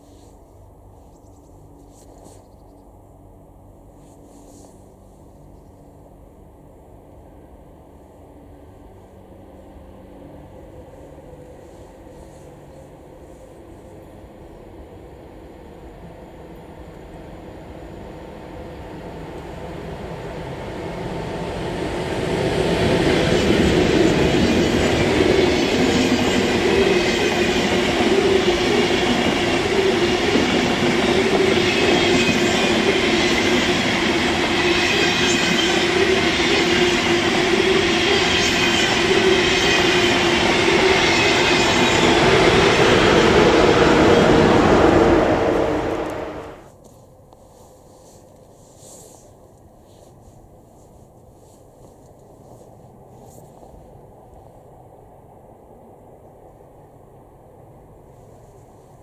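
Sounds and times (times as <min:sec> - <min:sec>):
high-speed train passing: 0:03.0 - 0:46.7, 0:51.0 - 0:59.0.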